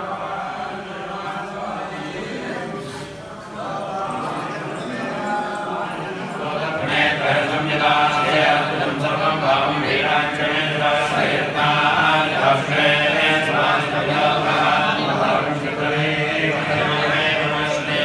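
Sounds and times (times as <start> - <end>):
group of men chanting: 0.0 - 18.0.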